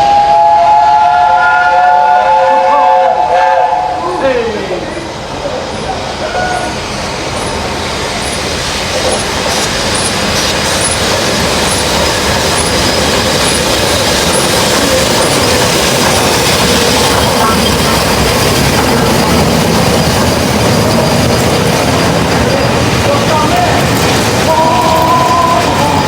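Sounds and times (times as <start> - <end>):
steam train rolling rumble: 0.0 - 26.0.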